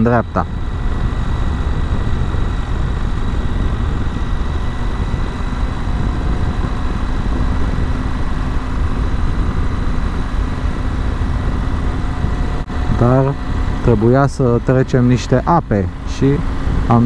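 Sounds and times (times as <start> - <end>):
motorcycle engine running: 0.0 - 17.0
wind rush on microphone: 0.0 - 17.0.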